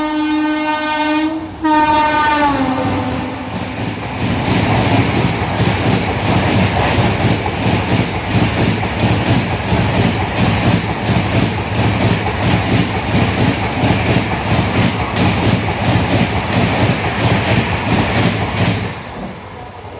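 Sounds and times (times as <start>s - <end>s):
train passing at high speed: 0.0s - 19.9s.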